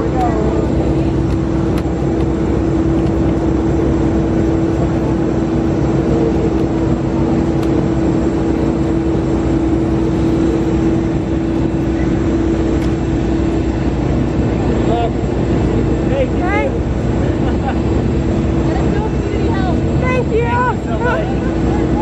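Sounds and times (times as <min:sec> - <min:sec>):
aircraft engine hum: 0:00.0 - 0:22.0
low rumble: 0:00.0 - 0:22.0.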